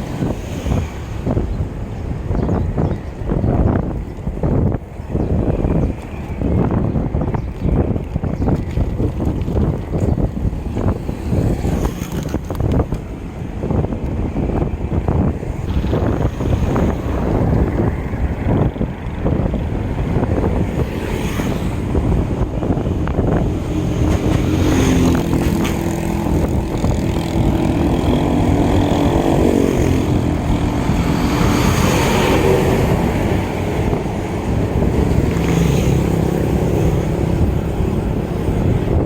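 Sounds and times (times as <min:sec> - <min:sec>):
vehicle engine hum: 0:00.0 - 0:39.0
wind buffeting microphone: 0:00.0 - 0:39.0.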